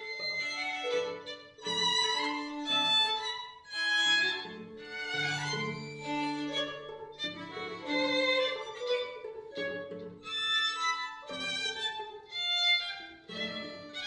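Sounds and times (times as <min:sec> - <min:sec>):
string quartet playing: 0:00.0 - 0:14.0.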